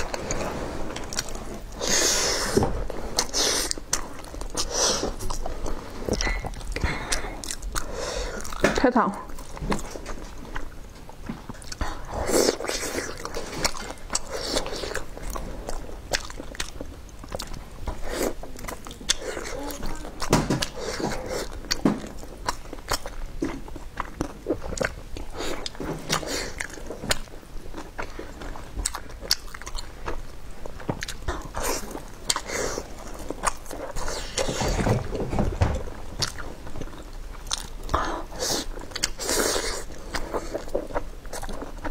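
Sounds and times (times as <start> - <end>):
person chewing with mouth clicks: 0.0 - 35.1, 35.9 - 41.9.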